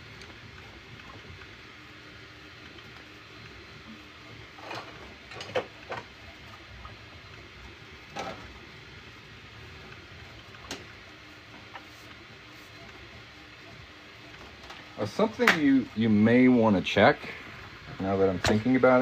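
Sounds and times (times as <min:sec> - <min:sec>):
three d printer humming: 0:00.0 - 0:19.0.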